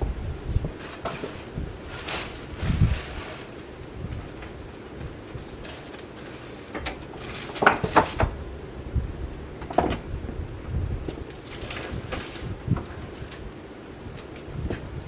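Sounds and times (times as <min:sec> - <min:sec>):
wind buffeting microphone: 0:00.0 - 0:05.9, 0:06.8 - 0:15.0
ceiling fan running: 0:00.0 - 0:15.0.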